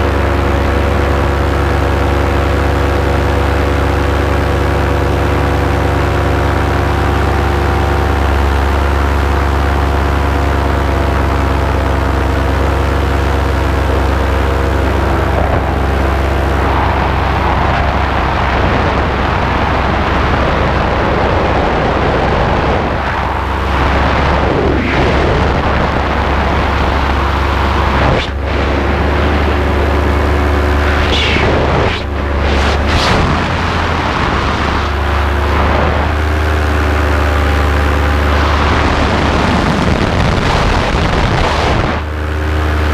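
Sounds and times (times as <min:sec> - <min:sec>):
paramotor engine running: 0:00.0 - 0:42.9
wind rushing over microphone: 0:00.0 - 0:42.9.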